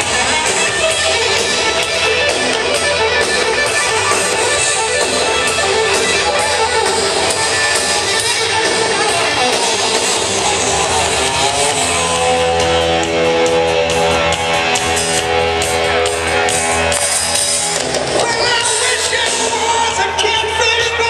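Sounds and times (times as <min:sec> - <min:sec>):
rock band playing instrumental: 0:00.0 - 0:21.0.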